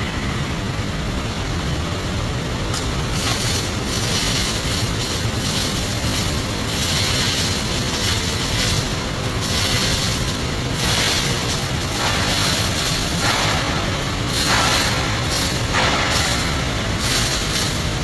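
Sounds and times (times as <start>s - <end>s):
welding arc crackling and hissing: 0.0s - 18.0s.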